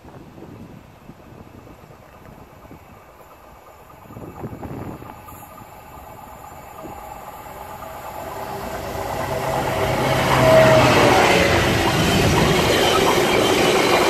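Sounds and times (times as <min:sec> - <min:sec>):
train wheels rumbling on rails: 0:00.0 - 0:14.0
diesel locomotive engine drone: 0:00.2 - 0:14.0.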